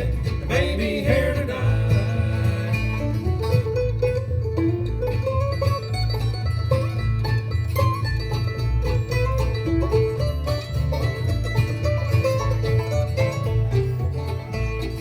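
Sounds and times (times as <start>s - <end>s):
banjo plucked notes: 0.0s - 15.0s
bluegrass band playing: 0.0s - 15.0s
guitar: 0.0s - 15.0s
steady bass: 0.0s - 15.0s.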